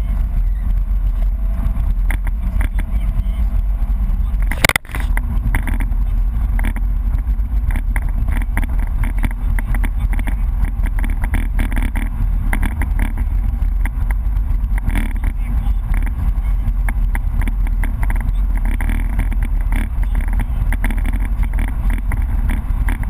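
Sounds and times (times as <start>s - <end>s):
car engine drone: 0.0s - 23.0s
tyre road noise: 0.0s - 23.0s.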